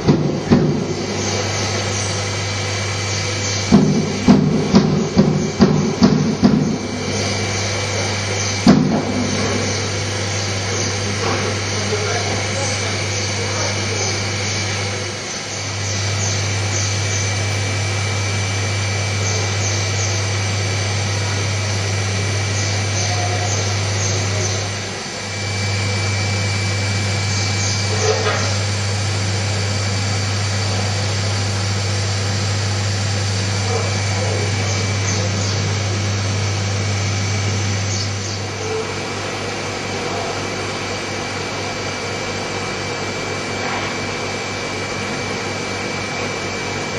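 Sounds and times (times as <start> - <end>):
hot-wire foam cutter humming: 0.0 - 46.9.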